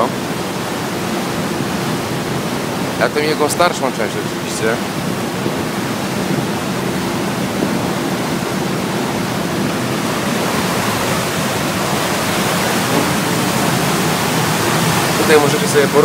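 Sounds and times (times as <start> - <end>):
ship engines humming: 0.0 - 16.0
ship wake churning water: 0.0 - 16.0.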